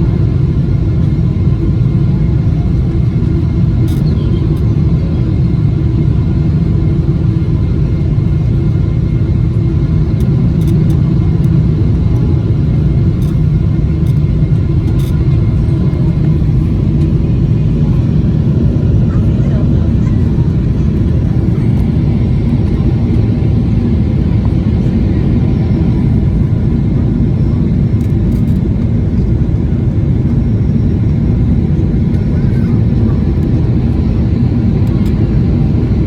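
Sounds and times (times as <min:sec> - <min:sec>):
low rumble of engines and airflow: 0:00.0 - 0:36.0.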